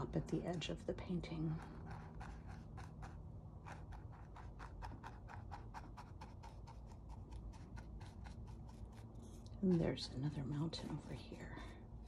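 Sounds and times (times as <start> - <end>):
paintbrush scratching on canvas: 0.4 - 11.7.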